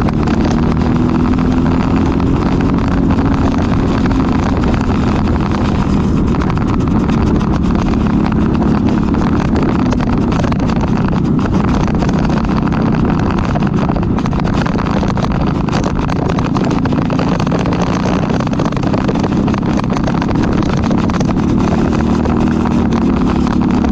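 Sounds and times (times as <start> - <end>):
kart engine running: 0.0 - 23.9.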